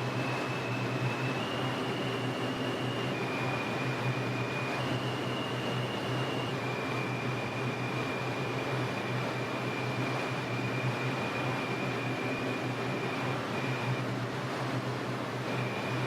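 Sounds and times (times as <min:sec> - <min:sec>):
thin high whine: 0:00.0 - 0:14.1, 0:15.4 - 0:16.0.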